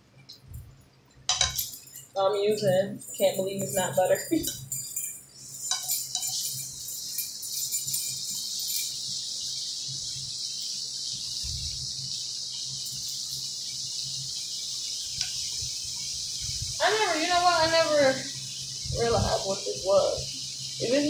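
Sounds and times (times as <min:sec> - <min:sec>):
food sizzling in a skillet: 0:01.3 - 0:21.0.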